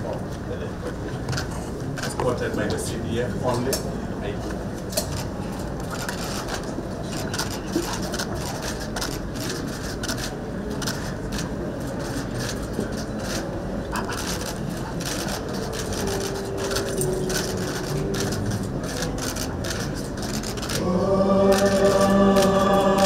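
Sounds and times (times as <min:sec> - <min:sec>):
crowded hall ambience: 0:00.0 - 0:23.0.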